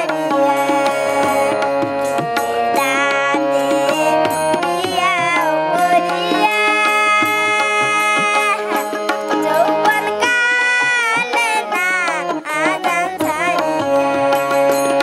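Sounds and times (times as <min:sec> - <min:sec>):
percussion beats: 0:00.0 - 0:15.0.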